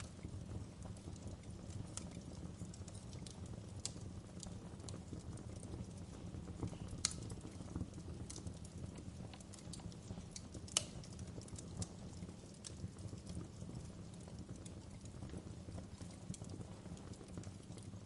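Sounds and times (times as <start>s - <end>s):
fire popping and snapping: 0.0s - 18.0s
low rumble of flames: 0.0s - 18.0s
wood fire crackling: 0.0s - 18.0s.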